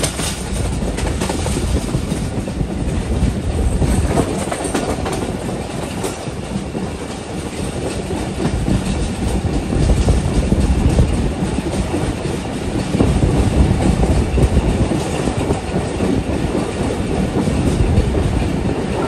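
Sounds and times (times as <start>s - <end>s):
train rumbling: 0.0s - 19.0s
wheels clacking over rail joints: 0.0s - 19.0s.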